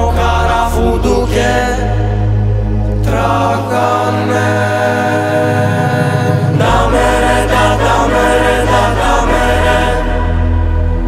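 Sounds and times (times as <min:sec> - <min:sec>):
bass line: 0:00.0 - 0:11.0
choir singing held chords: 0:00.0 - 0:11.0.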